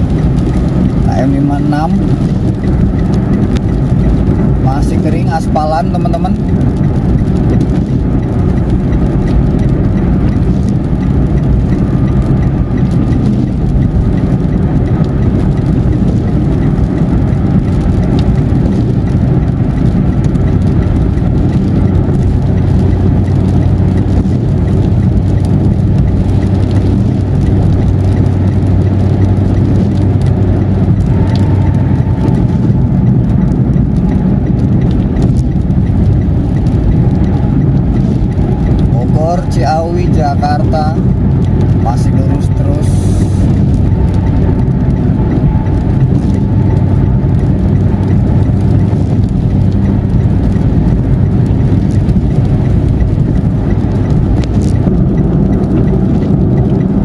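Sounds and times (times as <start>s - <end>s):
car road and engine drone: 0.0s - 57.0s
faint whine: 0.0s - 57.0s.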